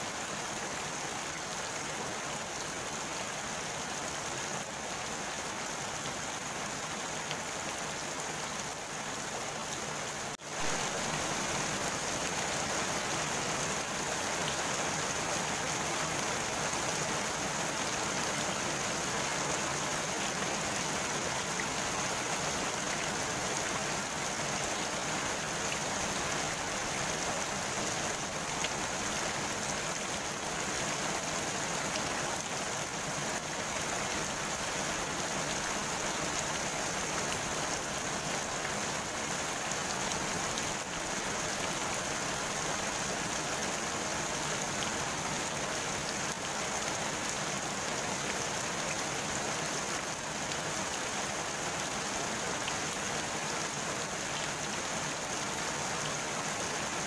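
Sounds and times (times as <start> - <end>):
rain falling on pond: 0.0 - 57.0.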